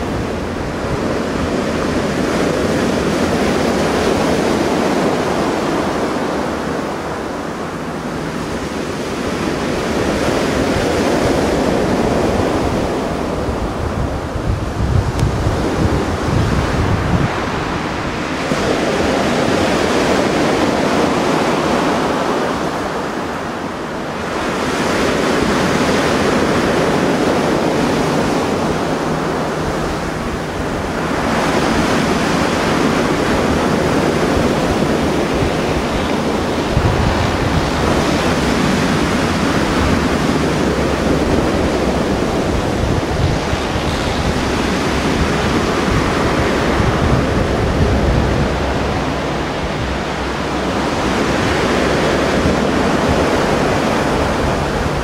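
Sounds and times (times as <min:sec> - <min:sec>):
waves breaking on shore: 0:00.0 - 0:55.0
wind buffeting microphone: 0:00.0 - 0:55.0.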